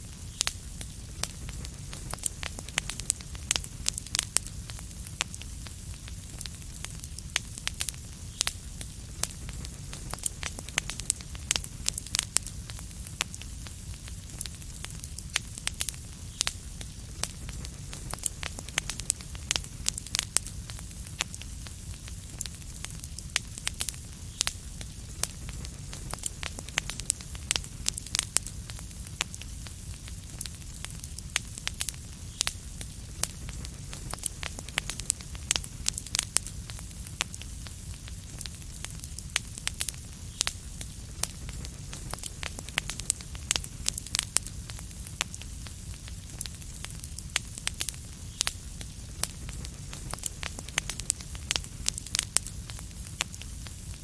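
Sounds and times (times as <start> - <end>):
fireplace fire crackling: 0.0 - 54.0
low rumble of burning: 0.0 - 54.0.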